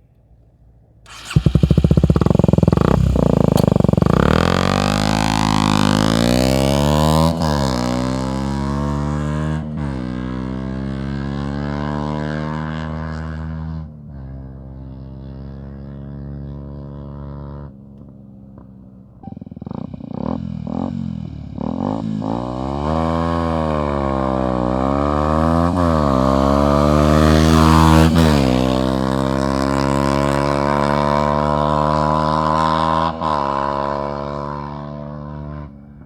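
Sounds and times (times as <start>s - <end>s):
motorcycle engine revving: 1.1s - 36.0s.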